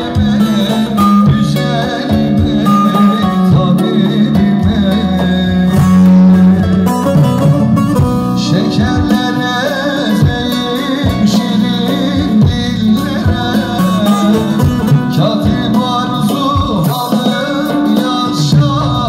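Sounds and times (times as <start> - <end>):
live folk band playing: 0.0 - 19.0
man singing through loudspeakers: 0.0 - 19.0.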